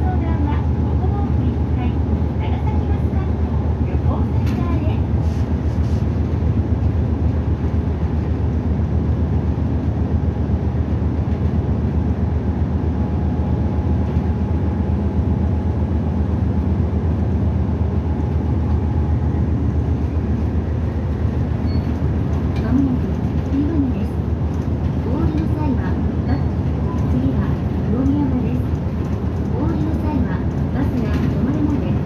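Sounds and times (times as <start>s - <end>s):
bus engine and road noise: 0.0s - 32.0s.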